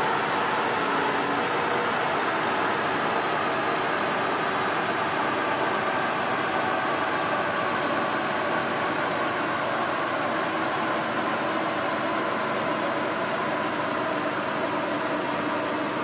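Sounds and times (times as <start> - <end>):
large cooling fan whirring: 0.0 - 16.0.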